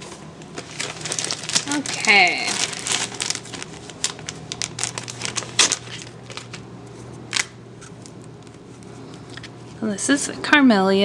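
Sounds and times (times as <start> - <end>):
paper rustling: 0.0 - 9.5
steady low hum: 0.0 - 11.0.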